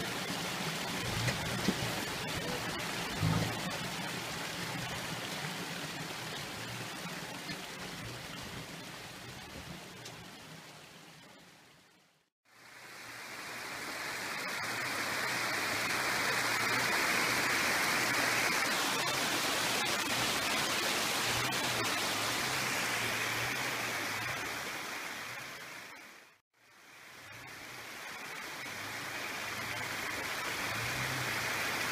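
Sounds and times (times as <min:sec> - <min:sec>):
water rushing over rocks: 0:00.0 - 0:31.9.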